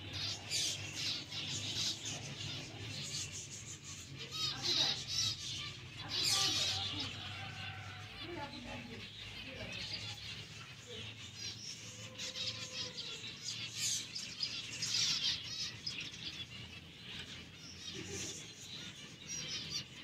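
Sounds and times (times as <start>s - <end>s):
parrots chattering: 0.0s - 20.0s.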